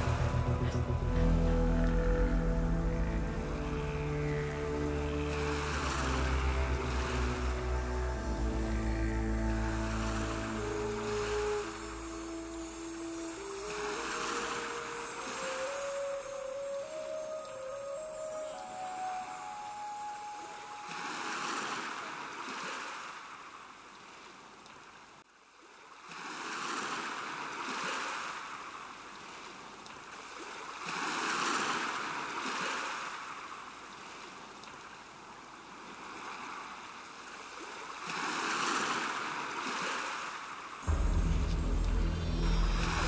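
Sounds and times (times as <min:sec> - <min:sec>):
sea waves washing onto shore: 0:00.0 - 0:24.5, 0:25.9 - 0:43.0.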